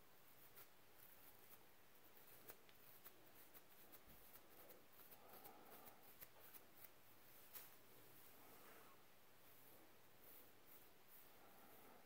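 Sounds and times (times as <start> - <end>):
comb scraping over scalp: 0.2 - 12.0.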